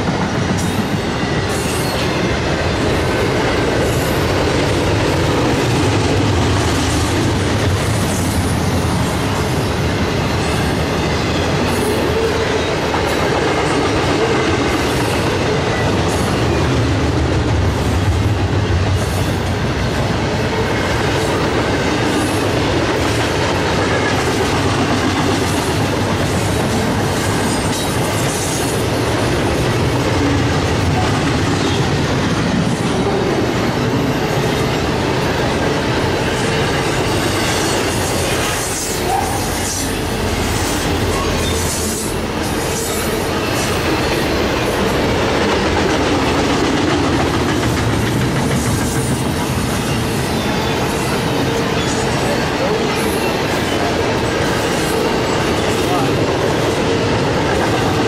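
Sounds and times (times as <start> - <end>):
container train wheels on rails: 0.0 - 58.0.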